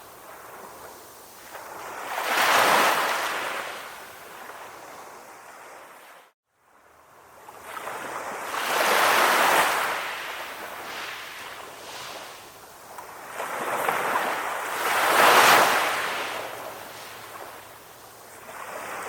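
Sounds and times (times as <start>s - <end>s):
ocean waves breaking: 0.0s - 6.3s, 7.6s - 19.0s.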